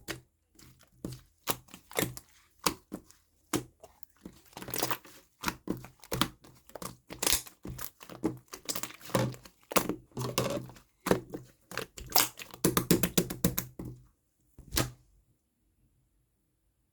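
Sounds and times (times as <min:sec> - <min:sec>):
handling taps clicks and crinkles: 0:00.0 - 0:14.0.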